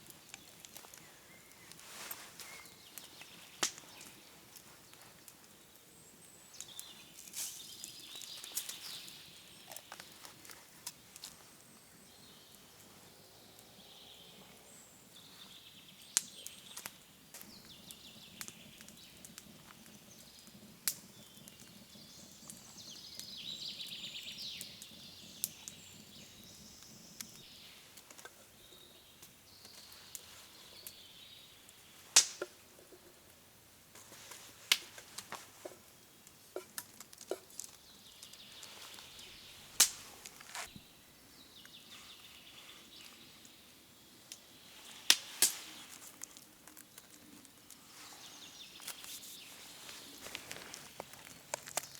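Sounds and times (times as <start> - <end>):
quiet outdoor ambience: 0.0 - 51.9.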